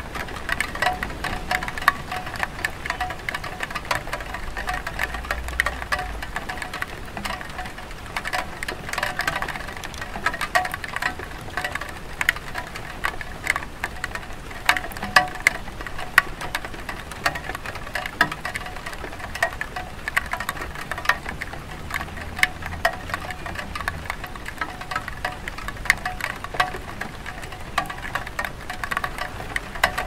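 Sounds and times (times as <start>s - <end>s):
light rain on a tile roof: 0.0s - 30.0s.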